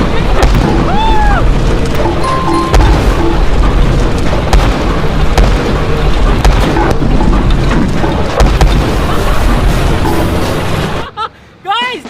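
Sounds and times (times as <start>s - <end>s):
road roller engine rumbling: 0.0s - 11.6s.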